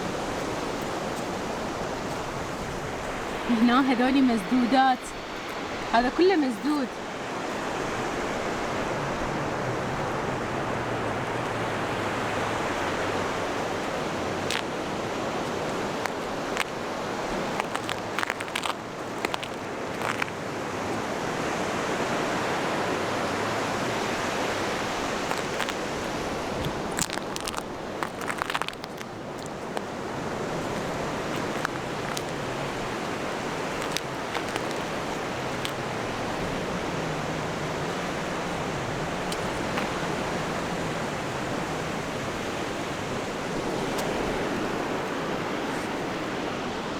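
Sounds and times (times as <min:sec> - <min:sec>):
sea waves washing on shore: 0:00.0 - 0:46.9.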